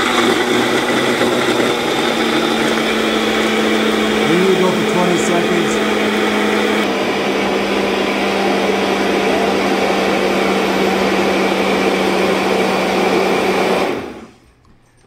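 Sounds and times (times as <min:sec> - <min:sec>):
blender motor whirring: 0:00.0 - 0:14.3.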